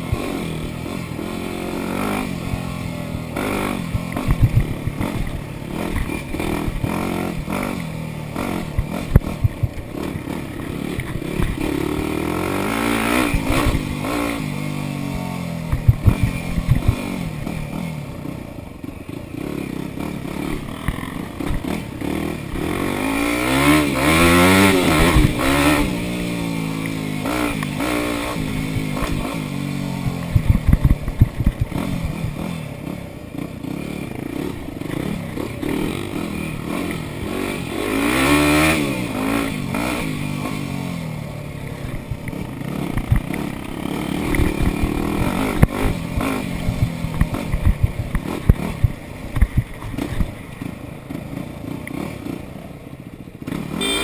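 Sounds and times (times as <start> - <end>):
bike rattling over bumps: 0.0 - 40.6, 41.7 - 52.5
dirt bike engine revving: 0.0 - 52.5, 53.4 - 54.0.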